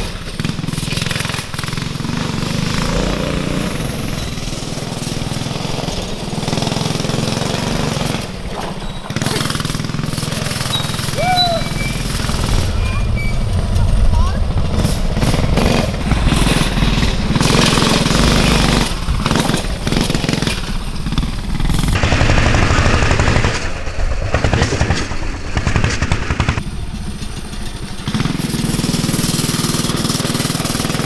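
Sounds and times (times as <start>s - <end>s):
mini bike engines running: 0.0s - 31.0s.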